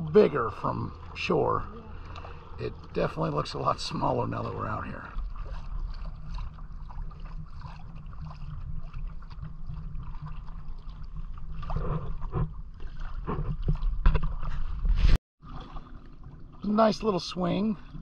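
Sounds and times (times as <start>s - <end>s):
paddle splashes: 0.0s - 18.0s
water splashing and gurgling: 0.0s - 18.0s.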